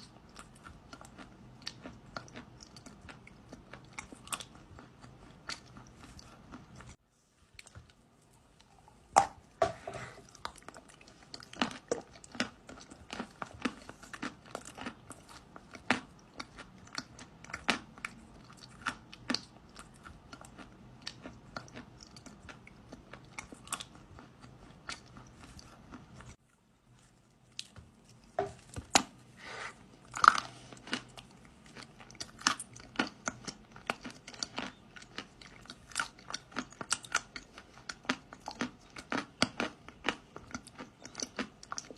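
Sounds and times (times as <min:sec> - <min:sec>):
chewing crunchy clay: 0:00.0 - 0:07.0, 0:08.7 - 0:41.9.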